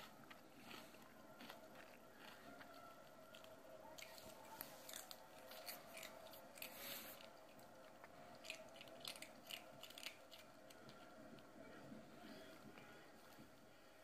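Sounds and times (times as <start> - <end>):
kitten crunching chips: 0.0 - 12.0.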